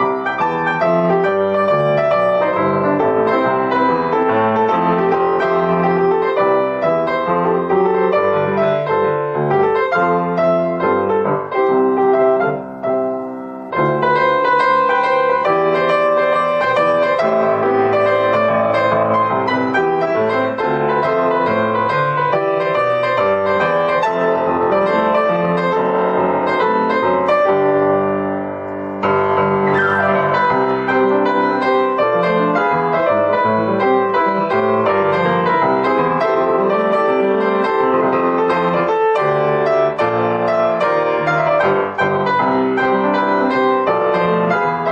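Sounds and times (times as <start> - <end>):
piano background music: 0.0 - 44.9.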